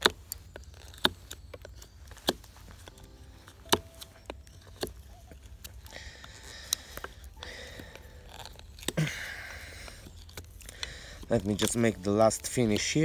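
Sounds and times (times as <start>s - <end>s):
sharp cracks of wood: 0.0s - 13.0s.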